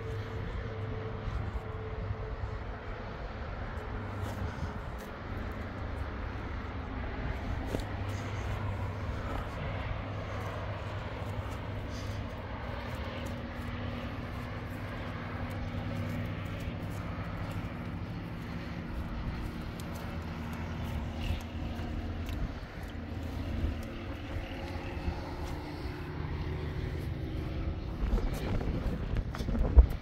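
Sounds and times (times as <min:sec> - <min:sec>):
distant traffic hum: 0:00.0 - 0:30.0.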